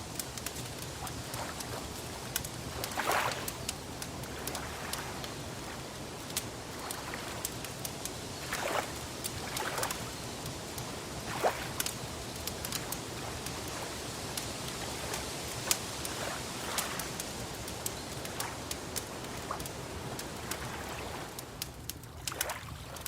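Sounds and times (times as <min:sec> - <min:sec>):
wood fire crackling: 0:00.0 - 0:23.0
lake water lapping: 0:00.1 - 0:23.0.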